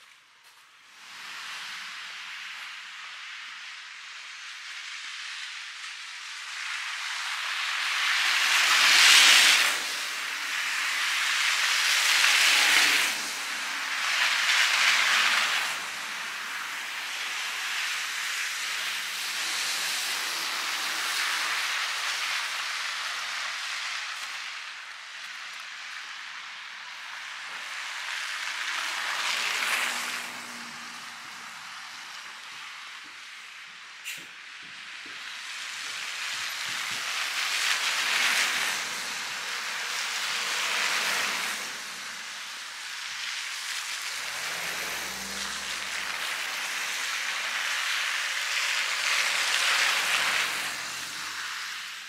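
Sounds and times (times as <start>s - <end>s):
tyre hiss on wet street: 0.0s - 52.0s
vehicle engine: 6.9s - 52.0s.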